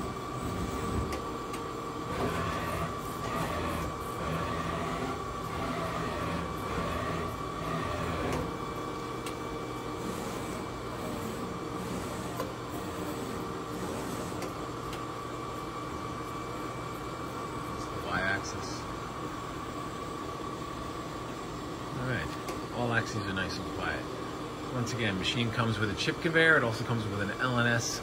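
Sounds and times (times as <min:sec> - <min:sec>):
lathe humming with high whine: 0:00.0 - 0:28.0.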